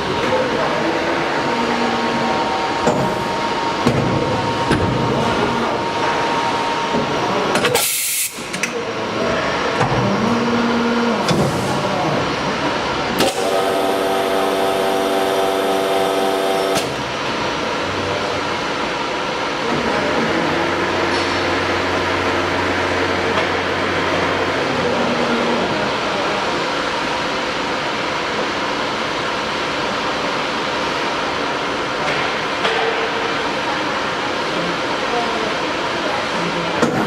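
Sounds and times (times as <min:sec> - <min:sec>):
loud machine noise: 0:00.0 - 0:37.0.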